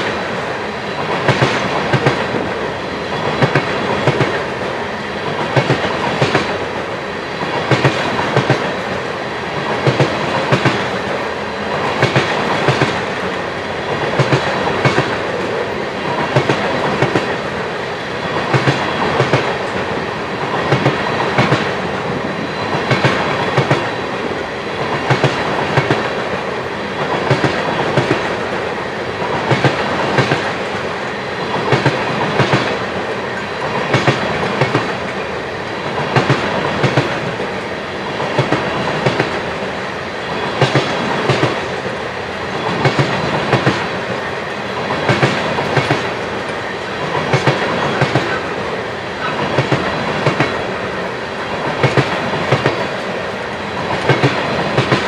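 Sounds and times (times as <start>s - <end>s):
train wheels clacking over rail joints: 0.0s - 41.9s, 42.5s - 55.0s
train rolling rumble: 0.0s - 55.0s.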